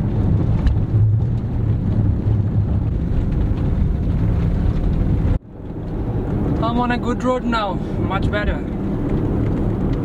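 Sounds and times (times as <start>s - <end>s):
wind noise on microphone: 0.0s - 7.0s, 7.8s - 10.0s
vehicle rumbling on rough road: 0.0s - 10.0s.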